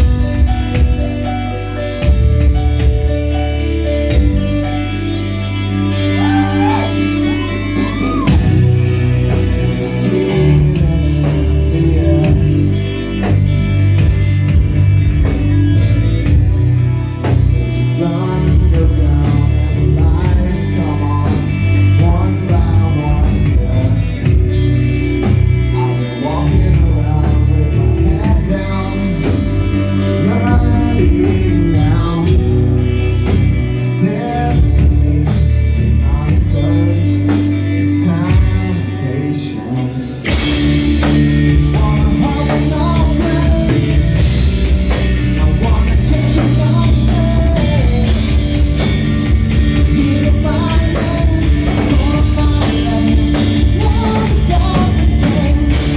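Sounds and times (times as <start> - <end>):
drums: 0.0 - 55.9
electric guitar: 0.0 - 55.9
heavy bass: 0.0 - 55.9
person singing: 5.8 - 13.4, 17.2 - 55.9.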